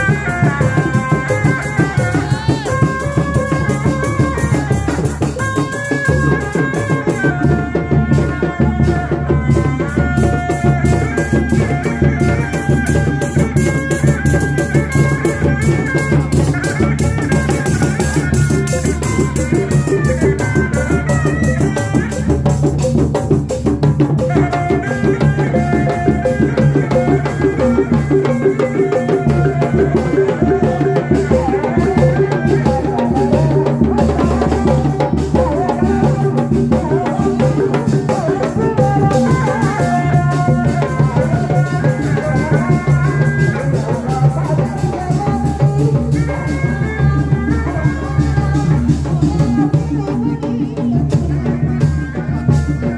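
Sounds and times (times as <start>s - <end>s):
drums and small gongs: 0.0s - 52.9s.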